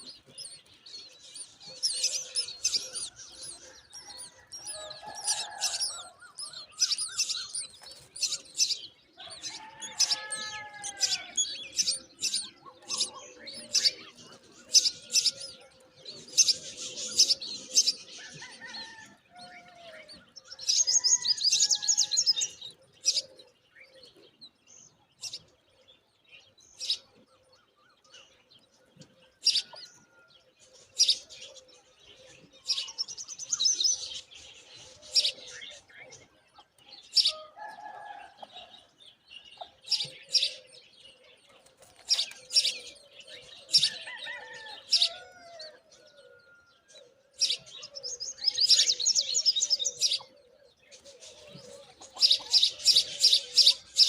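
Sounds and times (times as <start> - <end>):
myna birds chirping: 0.0 - 54.0.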